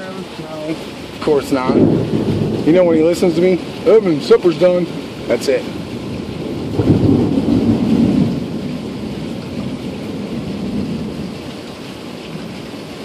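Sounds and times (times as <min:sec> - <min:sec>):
rain hissing: 0:00.0 - 0:13.0
thunder rumbling: 0:00.7 - 0:13.0.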